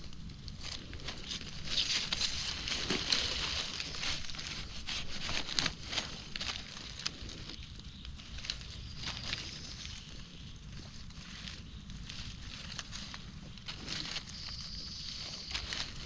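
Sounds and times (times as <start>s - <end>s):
dry leaves crackling underfoot: 0.0s - 16.0s.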